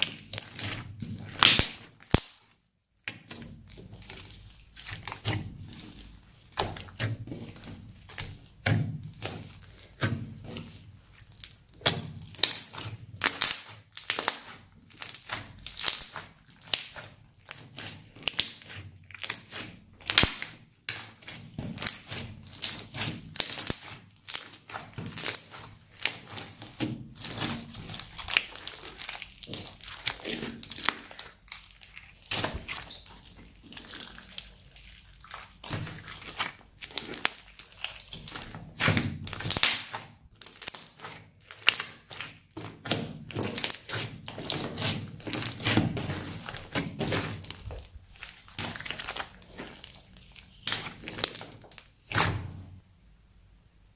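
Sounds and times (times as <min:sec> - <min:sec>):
slime squishing and popping: 0:00.0 - 0:52.7.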